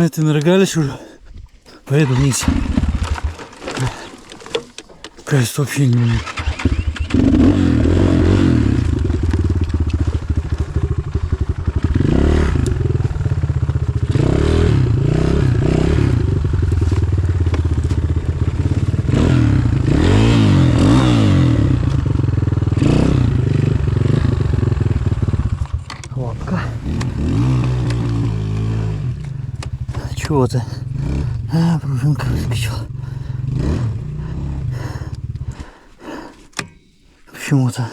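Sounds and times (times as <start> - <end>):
motorcycle engine revving: 1.9 - 36.8.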